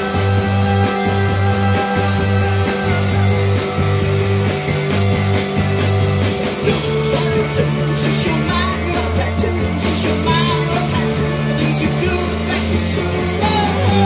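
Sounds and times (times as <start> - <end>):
drum kit: 0.0 - 14.0
electric guitar: 0.0 - 14.0
low bass notes: 0.0 - 14.0.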